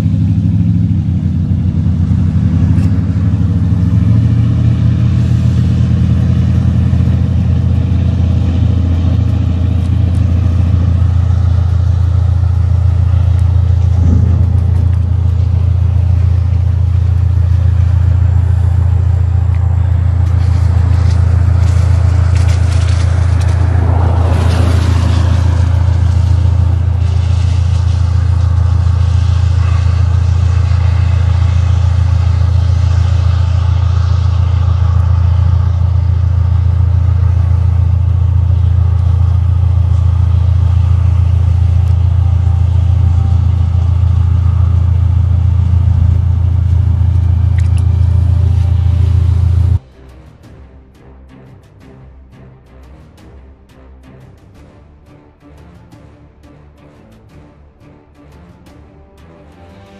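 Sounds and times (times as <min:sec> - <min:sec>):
rushing noise: 0:00.0 - 0:59.9
vehicle engine rumbling: 0:00.0 - 0:59.9.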